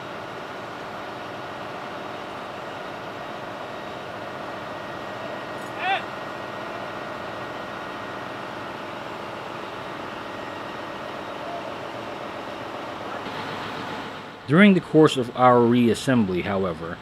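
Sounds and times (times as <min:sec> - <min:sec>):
diesel generator droning: 0:00.0 - 0:17.0.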